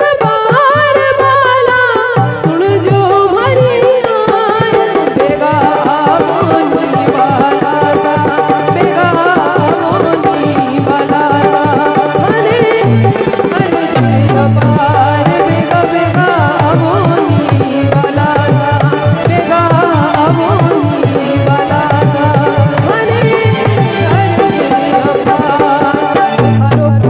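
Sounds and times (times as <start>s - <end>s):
hand drum beat: 0.0s - 27.0s
woman singing through microphone: 0.0s - 27.0s.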